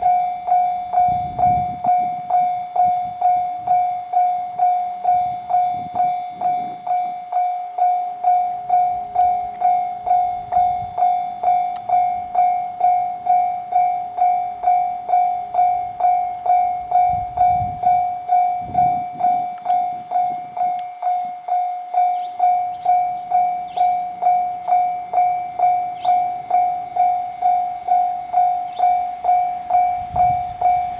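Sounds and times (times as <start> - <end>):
level crossing warning bell: 0.0 - 30.9.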